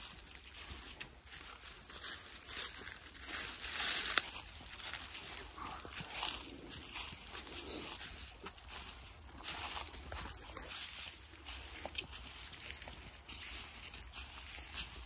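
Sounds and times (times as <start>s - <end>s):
footsteps through dry leaves: 0.0s - 15.0s.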